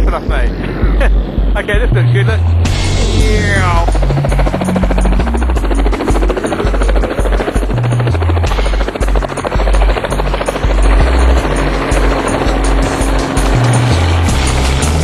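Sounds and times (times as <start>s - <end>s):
background music with bass line: 0.0s - 15.0s
helicopter rotor chopping: 0.0s - 15.0s.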